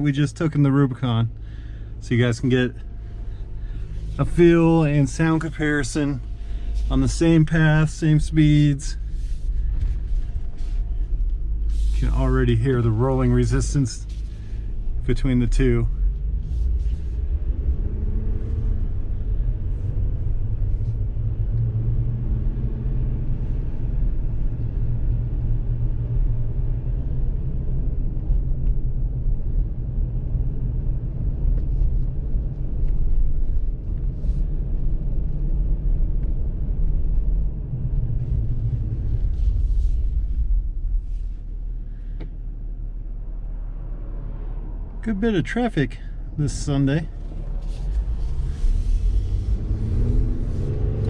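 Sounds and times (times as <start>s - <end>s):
tire roar inside vehicle cabin: 0.0s - 51.0s.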